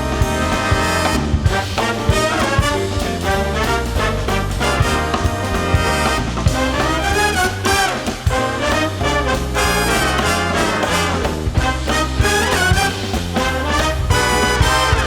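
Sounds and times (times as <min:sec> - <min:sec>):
big band playing swing: 0:00.0 - 0:15.0
trumpets and trombones: 0:00.0 - 0:15.0.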